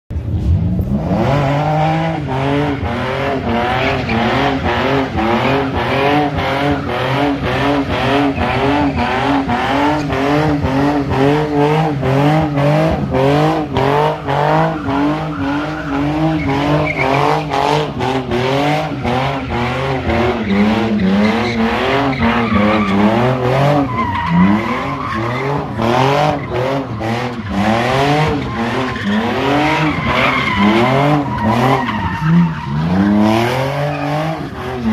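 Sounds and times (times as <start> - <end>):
car engine revving: 0.1 - 34.9
tyres skidding and squealing: 0.2 - 34.9.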